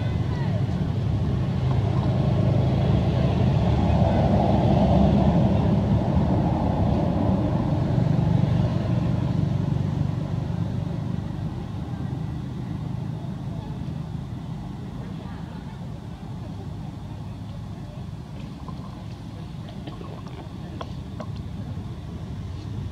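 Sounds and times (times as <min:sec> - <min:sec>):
vehicle engine rumble: 0:00.0 - 0:22.9.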